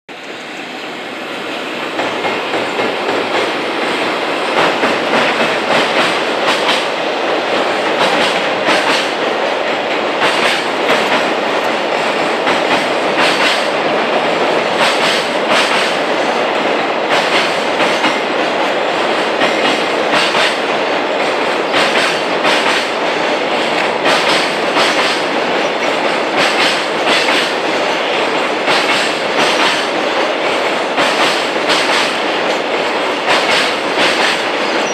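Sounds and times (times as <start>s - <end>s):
freight train wagons rumbling: 0.1s - 34.9s
wheels clacking over rail joints: 1.8s - 34.9s.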